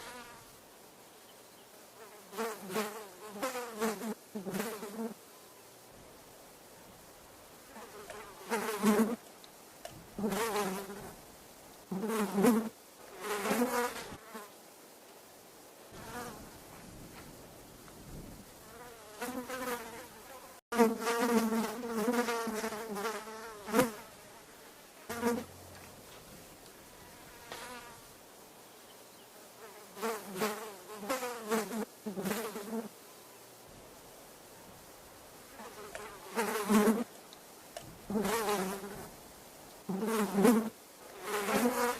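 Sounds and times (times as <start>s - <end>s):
flies buzzing: 0.0s - 14.7s, 15.9s - 41.9s.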